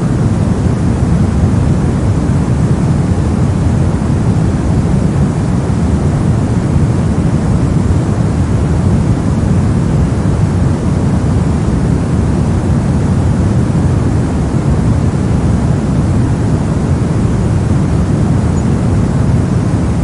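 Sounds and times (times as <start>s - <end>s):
deep rumbling white noise: 0.0s - 20.0s.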